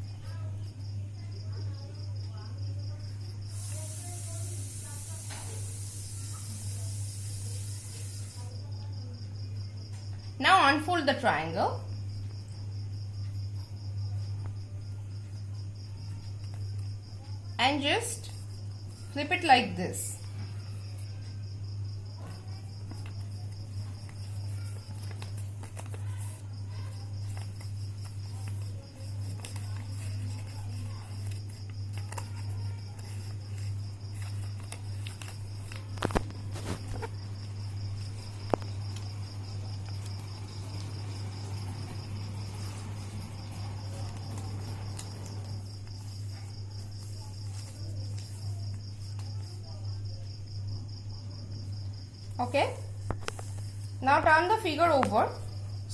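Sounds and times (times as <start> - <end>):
cricket chirring: 0.0 - 55.9.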